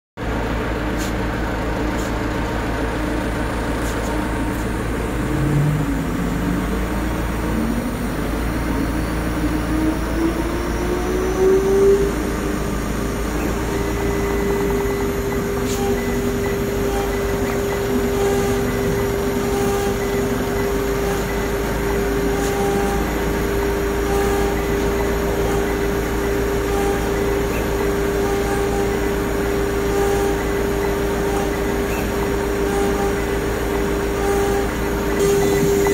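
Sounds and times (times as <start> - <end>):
stepper motor tones: 0.2 - 35.9
router spindle whine: 1.6 - 35.9.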